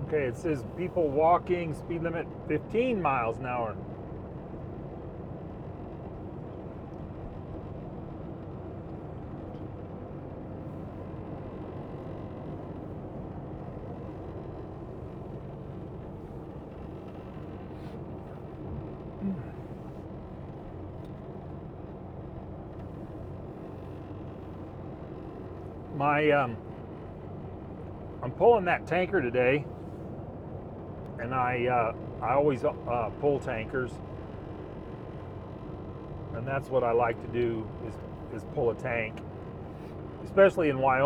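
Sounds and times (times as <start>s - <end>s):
road noise: 0.0s - 41.0s
truck diesel engine running: 0.0s - 41.0s.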